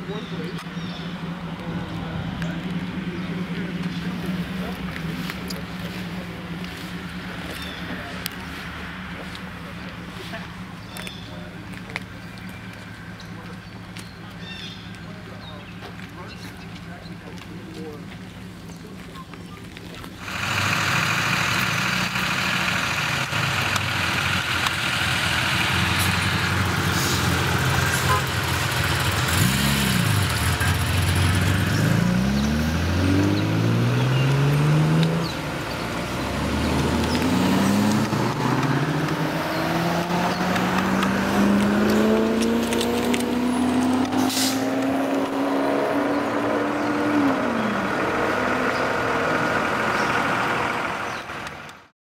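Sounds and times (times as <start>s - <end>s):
sports car engines accelerating: 0.0s - 51.9s.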